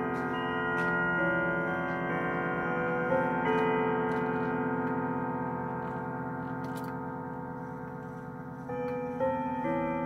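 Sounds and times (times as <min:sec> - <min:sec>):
grandfather clock chimes: 0:00.0 - 0:10.0.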